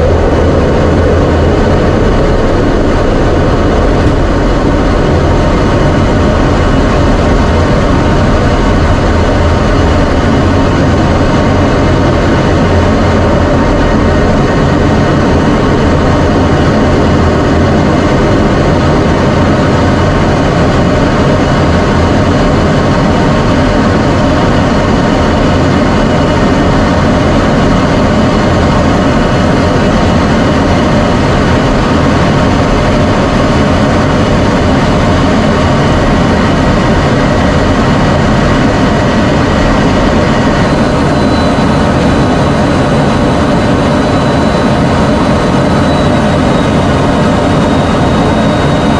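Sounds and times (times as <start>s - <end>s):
jet engine and rushing air: 0.0s - 48.9s.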